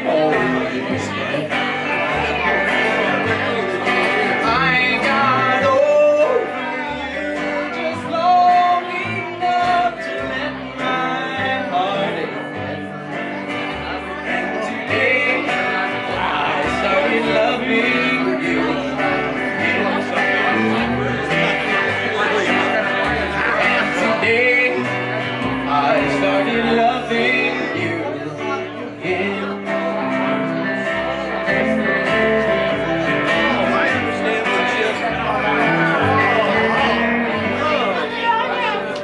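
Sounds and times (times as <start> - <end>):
acoustic guitar: 0.0 - 39.0
double bass plucking deep notes: 0.0 - 39.0
man singing: 0.0 - 39.0.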